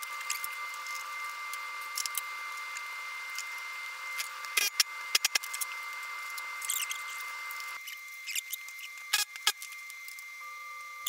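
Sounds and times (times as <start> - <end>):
steady high hum: 0.0 - 11.0.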